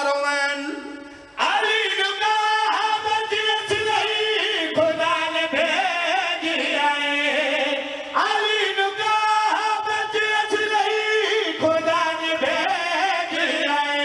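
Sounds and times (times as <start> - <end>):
men chanting together: 1.4 - 14.0.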